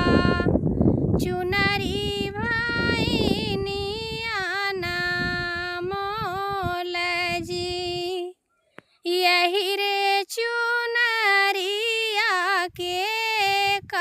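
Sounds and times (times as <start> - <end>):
woman singing folk song: 0.0 - 8.4, 9.0 - 14.0.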